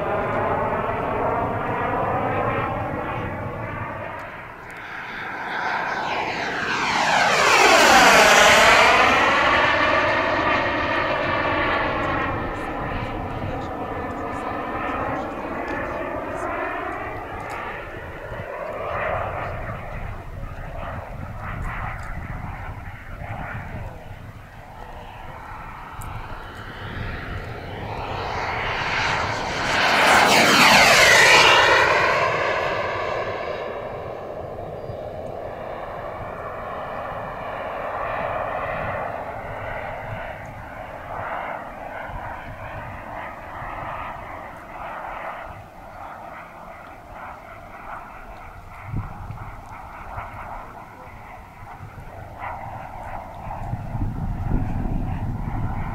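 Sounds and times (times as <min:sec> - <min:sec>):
model jet engine whining: 0:00.0 - 0:55.9.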